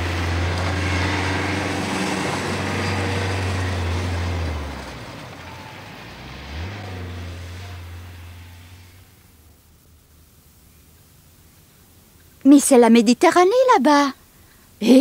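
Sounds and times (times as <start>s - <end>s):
minibus engine droning: 0.0s - 12.1s.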